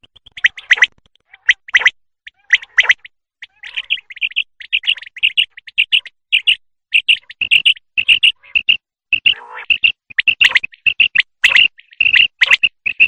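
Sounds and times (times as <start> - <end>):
quail calling with high chirps: 0.3 - 13.0.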